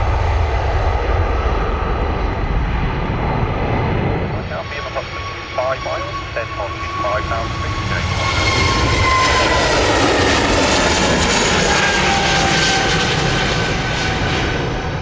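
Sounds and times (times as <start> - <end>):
jet airliner passing: 0.0 - 15.0
jet engine whine falling: 0.0 - 15.0.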